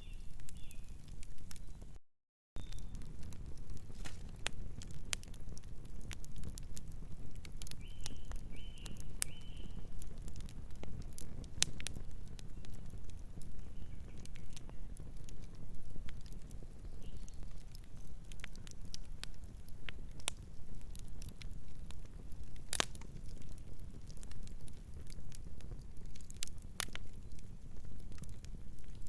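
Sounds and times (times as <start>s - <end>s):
wood fire crackling and popping: 0.0s - 2.0s, 2.6s - 29.0s.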